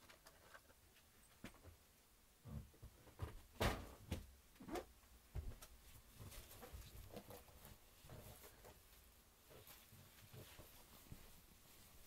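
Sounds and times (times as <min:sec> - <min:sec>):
faint knocks and rustles: 0:00.0 - 0:12.0.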